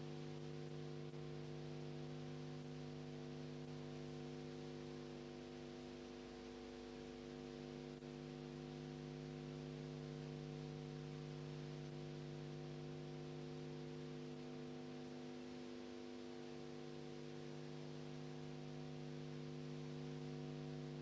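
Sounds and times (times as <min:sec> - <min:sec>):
constant hiss: 0:00.0 - 0:21.0
electrical mains hum: 0:00.0 - 0:21.0.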